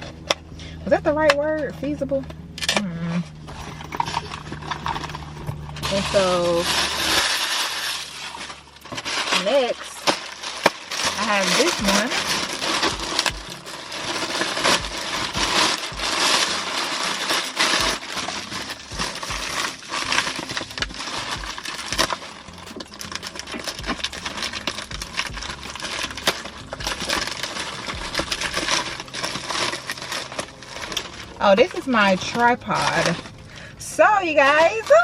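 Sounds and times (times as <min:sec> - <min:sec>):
packaging rustling and crinkling: 0:02.7 - 0:35.0.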